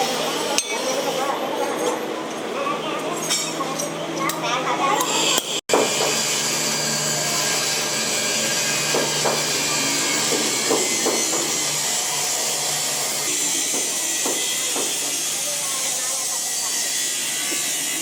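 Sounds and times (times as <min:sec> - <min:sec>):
workshop machine whirring: 0:00.0 - 0:18.0.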